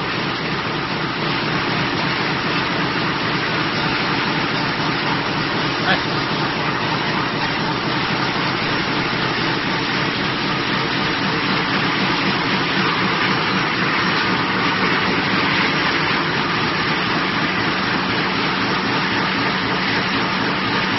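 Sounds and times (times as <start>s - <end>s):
metal slitting machine running: 0.0s - 20.9s.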